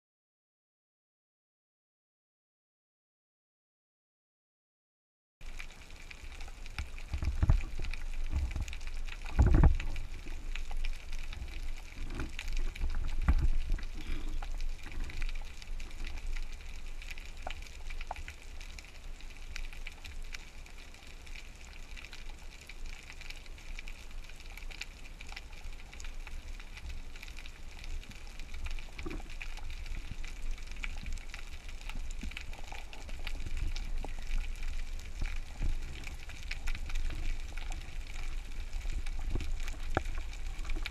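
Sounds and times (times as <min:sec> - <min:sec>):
underwater crackle of clicks: 0:05.4 - 0:40.9.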